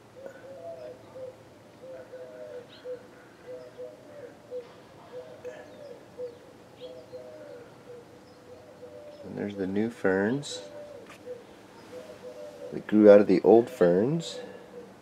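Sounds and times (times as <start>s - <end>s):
birds calling low notes: 0.0s - 15.0s.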